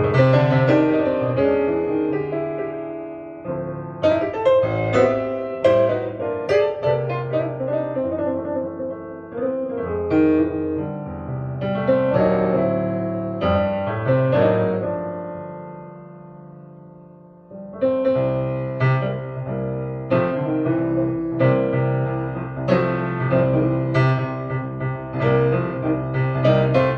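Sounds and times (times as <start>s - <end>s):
solo piano music over speakers: 0.0s - 26.9s.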